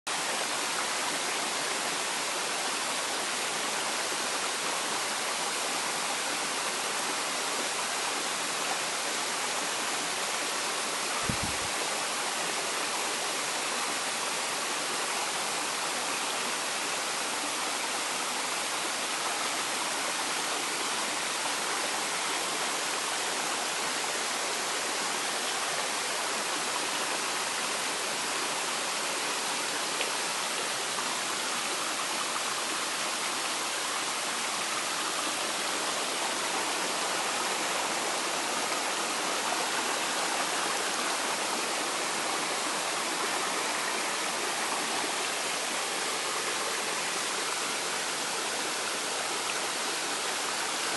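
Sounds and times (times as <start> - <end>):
stream rushing over rocks: 0.1 - 50.9.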